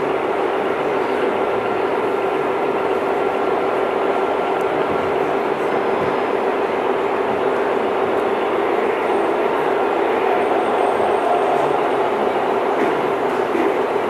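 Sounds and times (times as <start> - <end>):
model trains rolling on track: 0.0 - 14.0.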